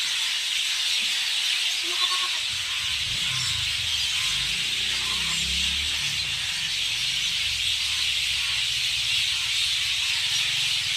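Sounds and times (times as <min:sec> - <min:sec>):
birds chorus calling: 0:00.0 - 0:10.9.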